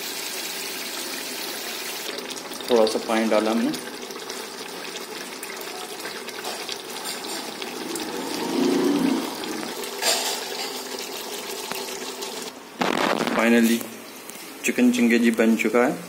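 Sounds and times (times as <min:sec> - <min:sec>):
curry bubbling and sizzling: 0:00.0 - 0:14.6.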